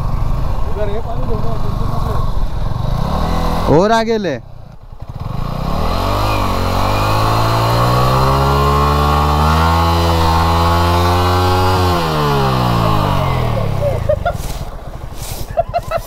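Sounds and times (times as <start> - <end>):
motorcycle engine revving hard: 0.0 - 4.1, 4.8 - 15.5.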